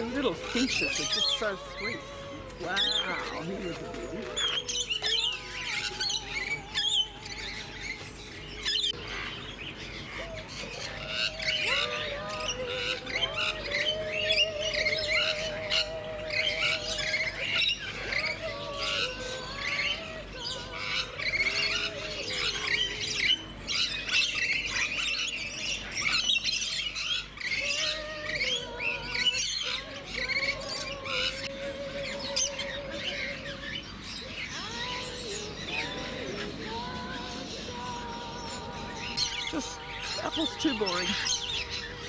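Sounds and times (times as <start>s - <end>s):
birds squawking and chirping: 0.0s - 42.0s.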